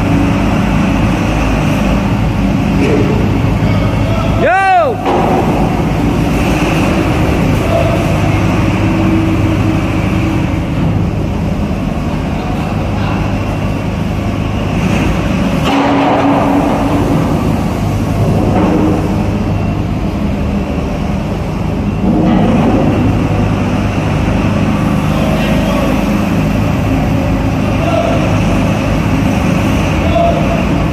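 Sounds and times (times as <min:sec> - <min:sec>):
diesel engine humming: 0:00.0 - 0:30.9.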